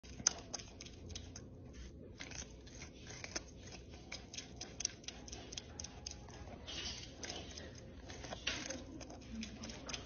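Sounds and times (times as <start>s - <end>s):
porcupine gnawing corn: 0.0s - 10.0s.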